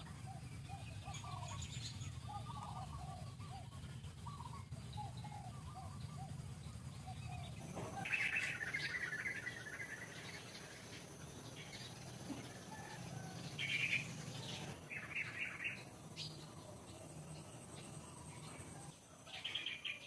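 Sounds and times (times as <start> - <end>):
low background hum: 0.0 - 20.0
small birds chirping: 0.0 - 20.0.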